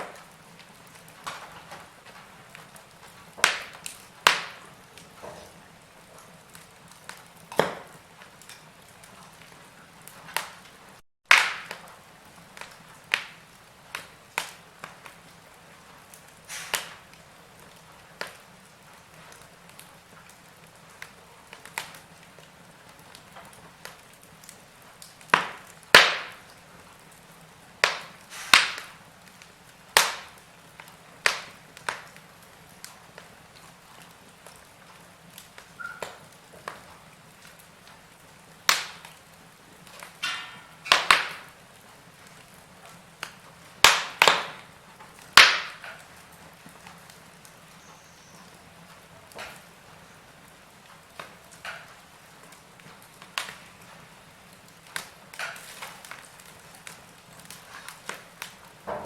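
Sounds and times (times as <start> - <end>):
faint steady hiss: 0.0 - 59.0
wood fire crackling and popping: 0.0 - 59.0.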